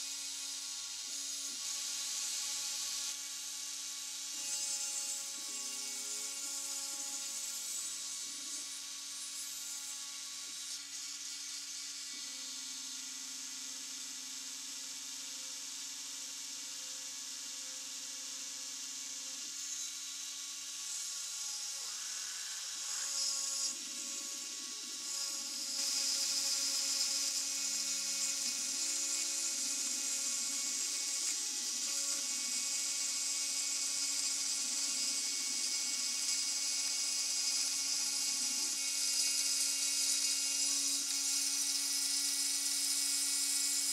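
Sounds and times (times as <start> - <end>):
router spindle whining: 0.0 - 43.9.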